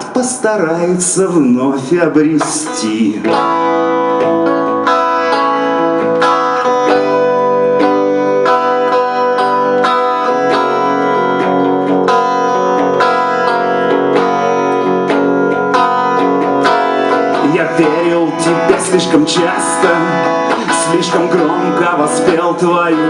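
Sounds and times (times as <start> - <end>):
guitar playing chords: 0.0 - 23.0.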